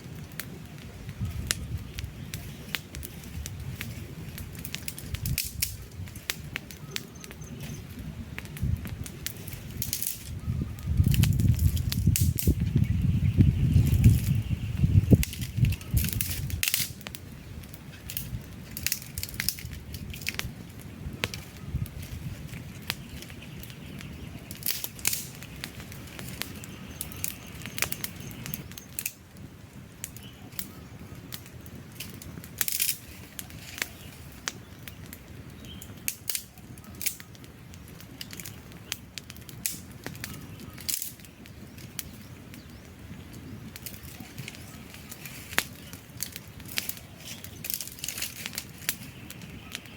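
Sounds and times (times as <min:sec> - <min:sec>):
campfire crackling and popping: 0:00.0 - 0:49.9
low hiss of flame: 0:00.0 - 0:49.9.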